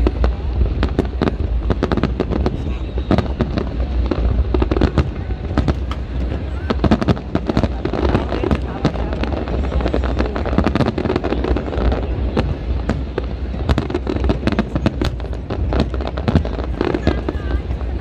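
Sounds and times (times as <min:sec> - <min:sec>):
fireworks bangs and crackles: 0:00.0 - 0:18.0
low background rumble: 0:00.0 - 0:18.0.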